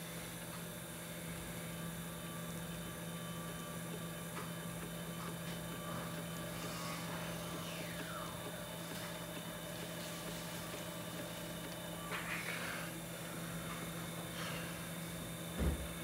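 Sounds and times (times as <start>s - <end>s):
pottery wheel motor humming: 0.0s - 16.0s.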